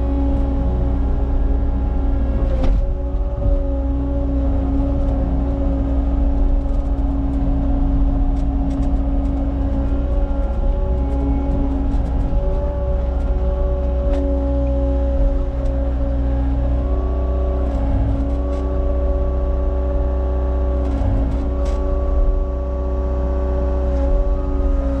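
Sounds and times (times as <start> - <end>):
diesel engine rumbling: 0.0 - 25.0
steady whine: 0.0 - 25.0.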